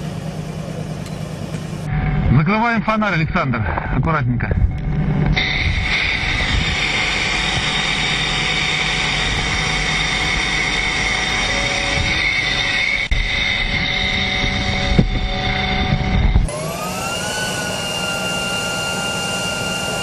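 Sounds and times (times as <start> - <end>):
whining rush of airfield machinery: 0.0 - 20.0.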